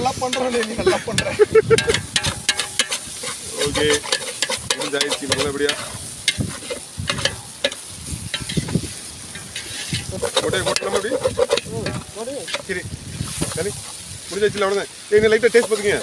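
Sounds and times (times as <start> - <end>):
fish sizzling in a pot: 0.0 - 16.0
metal ladle scraping a metal pot: 0.2 - 14.0.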